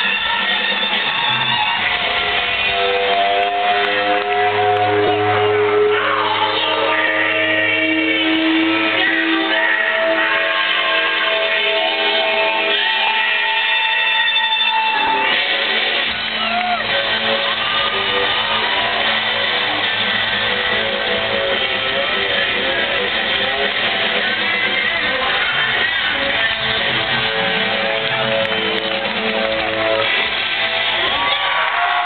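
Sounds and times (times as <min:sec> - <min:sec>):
live rock band playing: 0:00.0 - 0:32.0
loud electric guitar: 0:00.0 - 0:32.0.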